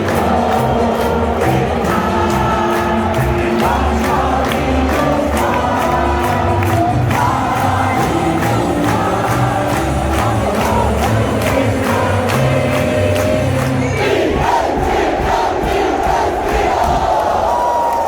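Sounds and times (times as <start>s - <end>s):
music with steady beat: 0.0s - 17.6s
large crowd noise: 0.0s - 18.0s.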